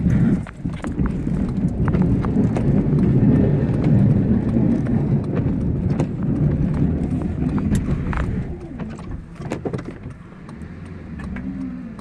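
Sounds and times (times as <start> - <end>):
snowplow knocks and rattles: 0.0 - 10.3
truck engine rumble: 0.0 - 12.0.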